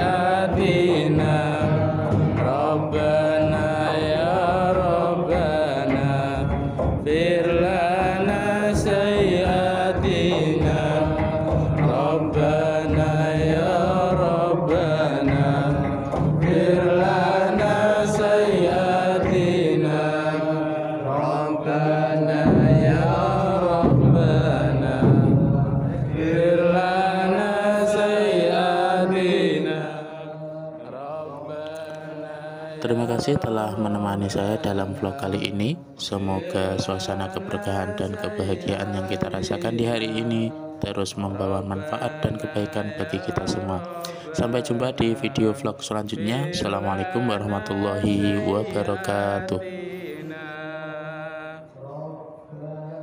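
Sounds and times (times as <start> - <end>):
melodic devotional chanting: 0.0 - 53.0.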